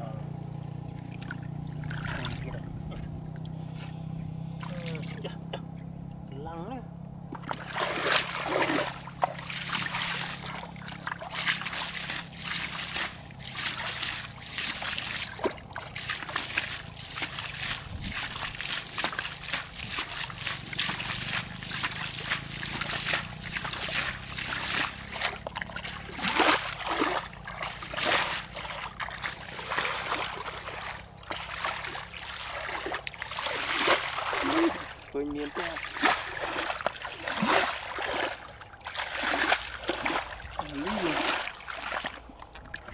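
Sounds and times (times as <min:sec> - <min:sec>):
faint low hum: 0:00.0 - 0:42.9
feet splashing in muddy water: 0:00.2 - 0:05.8, 0:07.1 - 0:42.9.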